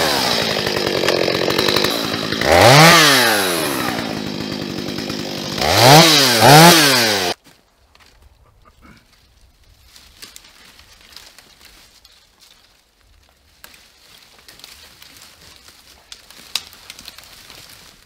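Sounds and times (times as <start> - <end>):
dry branches crackling and snapping: 0.0 - 8.4, 9.0 - 18.0
footsteps on dry forest debris: 0.0 - 8.4, 9.1 - 18.0.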